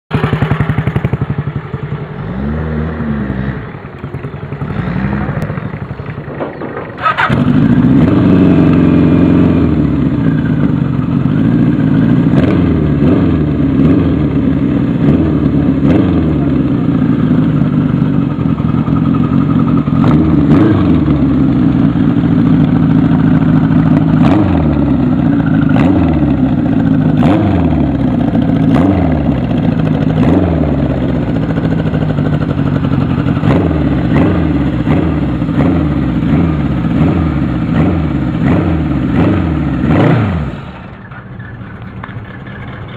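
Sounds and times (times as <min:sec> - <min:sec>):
motorcycle engine revving: 0:00.1 - 0:42.9.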